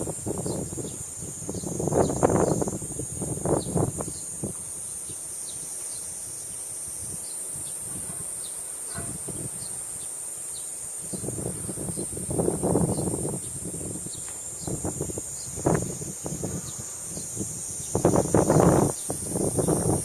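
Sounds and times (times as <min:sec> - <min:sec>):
wind buffeting microphone: 0:00.0 - 0:05.2, 0:07.0 - 0:09.9, 0:11.0 - 0:20.0
cicadas droning: 0:00.0 - 0:20.0.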